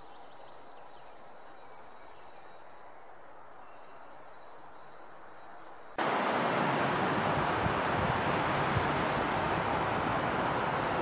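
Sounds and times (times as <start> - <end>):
soft outdoor hiss: 0.0 - 11.0.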